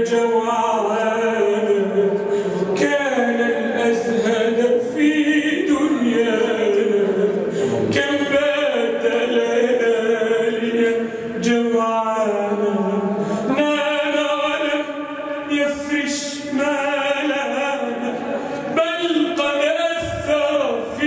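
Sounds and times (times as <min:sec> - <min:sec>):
men singing a cappella: 0:00.0 - 0:21.0.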